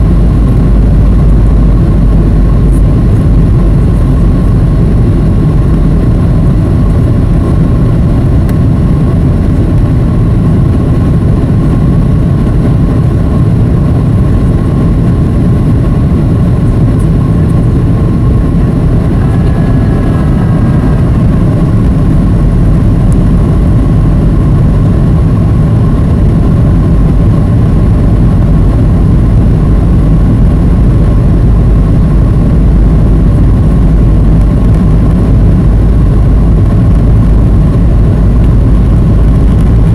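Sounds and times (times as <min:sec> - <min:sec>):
faint steady hum: 0:00.0 - 0:39.9
jet engine cabin rumble: 0:00.0 - 0:39.9.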